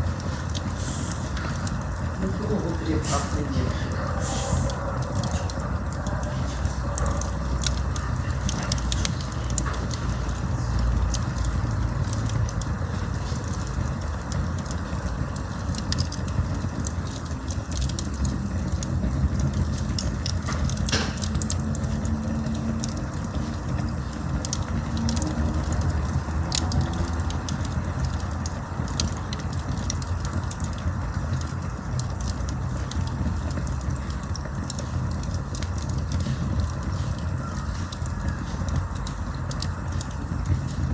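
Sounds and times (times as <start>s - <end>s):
burning wood crackling and popping: 0.0s - 40.9s
low rush of flame: 0.0s - 40.9s.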